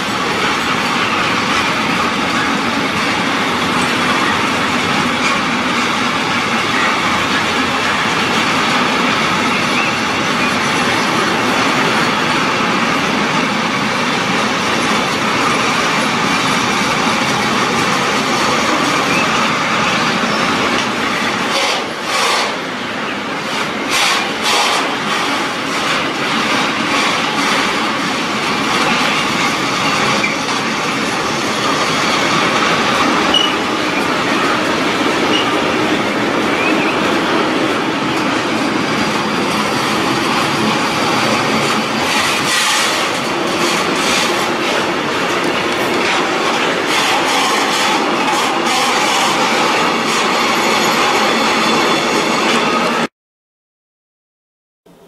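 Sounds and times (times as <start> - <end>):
steel wheels rushing on rail: 0.0 - 53.1
wheels clacking over rail joints: 0.0 - 53.1.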